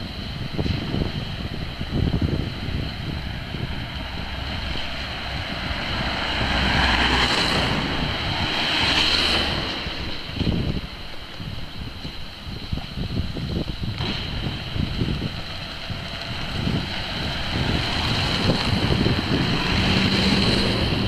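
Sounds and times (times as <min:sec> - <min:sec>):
rushing noise: 0:00.0 - 0:21.0
wind buffeting microphone: 0:00.0 - 0:21.0.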